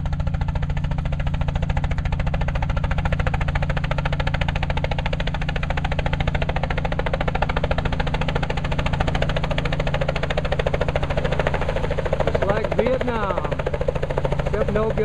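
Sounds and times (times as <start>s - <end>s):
helicopter engine hum: 0.0s - 15.0s
helicopter rotor chop: 0.0s - 15.0s.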